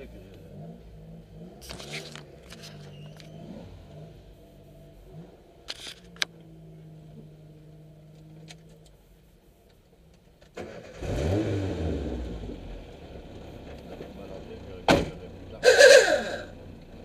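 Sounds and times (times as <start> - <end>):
engine revving: 0.0 - 8.5, 10.6 - 16.6
car engine idling: 0.0 - 11.1, 12.3 - 17.0.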